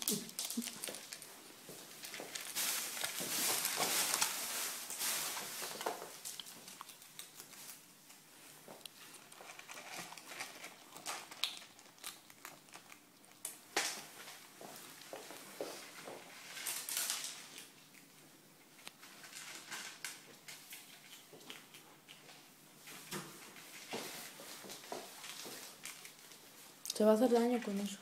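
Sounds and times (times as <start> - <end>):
pet chewing and crinkling: 0.0 - 28.0.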